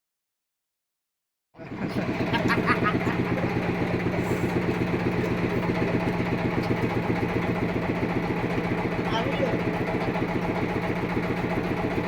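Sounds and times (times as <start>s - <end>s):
sawmill engine idling: 1.6s - 12.0s.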